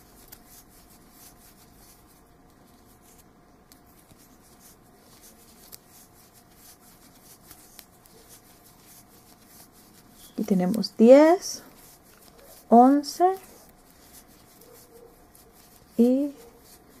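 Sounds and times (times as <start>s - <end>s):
faint steady hum: 0.0s - 17.0s
yarn rustling with crochet hook: 0.0s - 17.0s.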